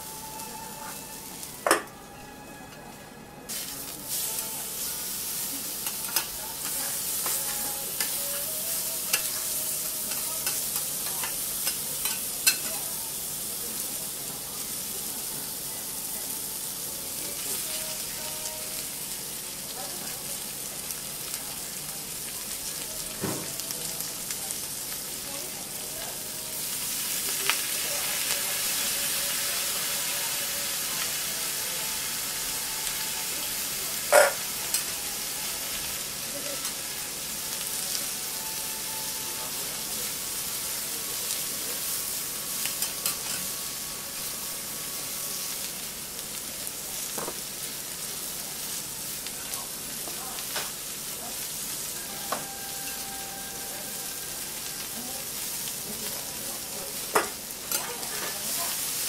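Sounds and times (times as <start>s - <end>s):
food sizzling on a griddle: 0.0s - 2.7s, 3.5s - 59.0s.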